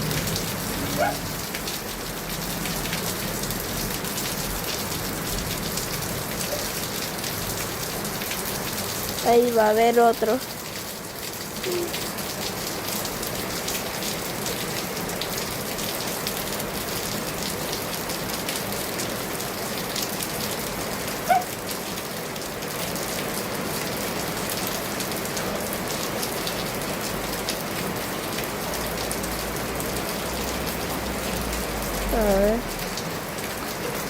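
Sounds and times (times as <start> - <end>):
raindrops ticking on a surface: 0.0 - 34.0
steady rain falling: 0.0 - 34.0.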